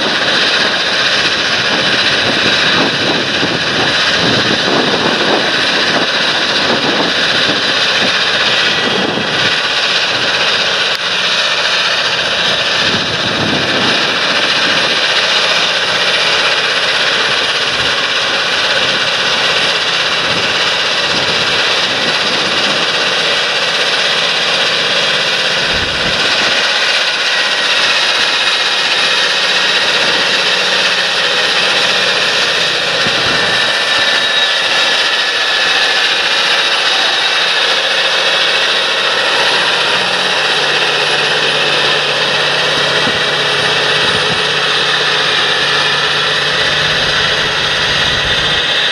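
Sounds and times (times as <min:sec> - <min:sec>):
thin steady whine: 0:00.0 - 0:48.9
tractor diesel engine running: 0:00.0 - 0:48.9.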